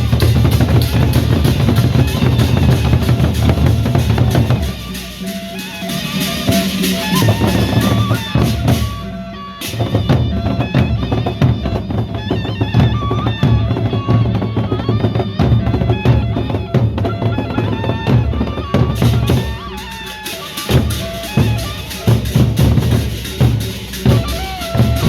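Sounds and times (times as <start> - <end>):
heavy drumming: 0.0 - 25.0
processional band music: 0.0 - 25.0.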